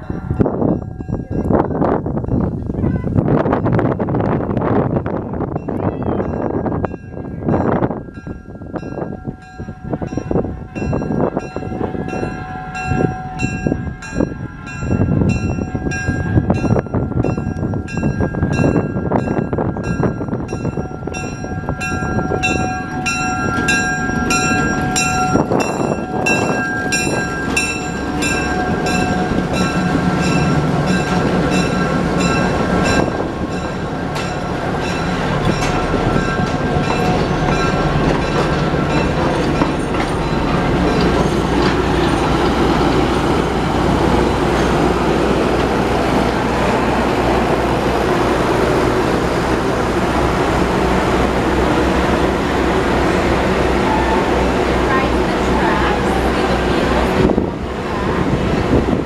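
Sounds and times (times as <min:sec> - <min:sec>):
locomotive bell ringing: 0:00.0 - 0:02.6, 0:05.4 - 0:58.6
train rumbling: 0:00.0 - 0:59.0.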